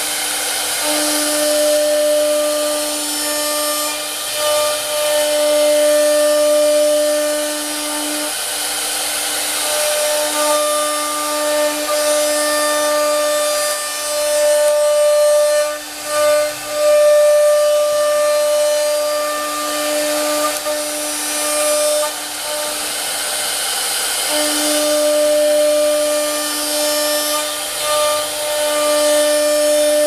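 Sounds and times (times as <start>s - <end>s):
router spindle hissing: 0.0s - 30.0s.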